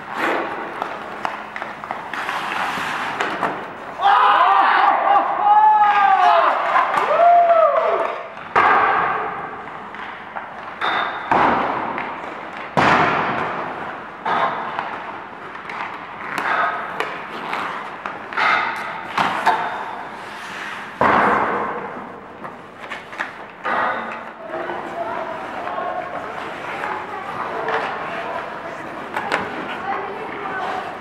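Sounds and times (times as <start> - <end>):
hockey sticks and pucks knocking on ice: 0.0 - 4.0, 5.8 - 31.0.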